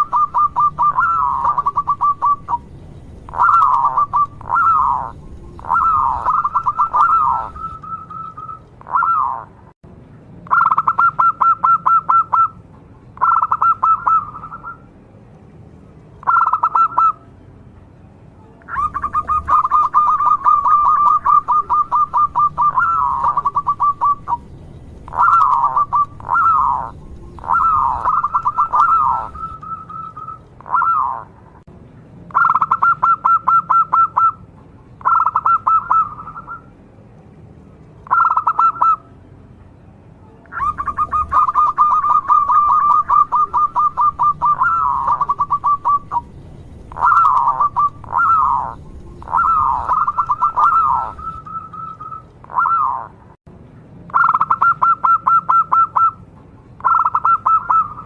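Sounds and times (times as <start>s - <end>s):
dove trilling coos: 0.0s - 9.6s, 10.4s - 12.6s, 13.2s - 14.8s, 16.2s - 17.2s, 18.6s - 31.4s, 32.3s - 34.4s, 35.0s - 36.7s, 38.0s - 39.1s, 40.5s - 53.2s, 54.1s - 56.2s, 56.8s - 58.0s.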